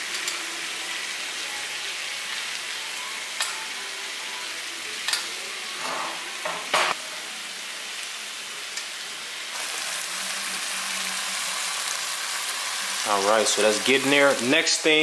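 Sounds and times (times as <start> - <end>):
steaks sizzling in butter: 0.0 - 15.0.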